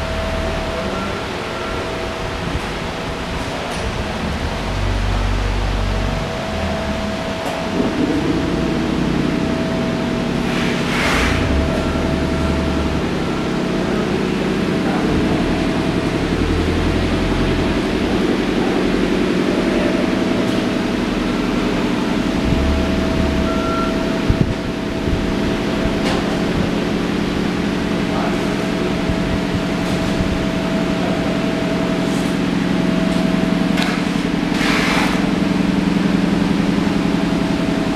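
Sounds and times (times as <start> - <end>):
low mechanical drone: 0.0 - 37.9.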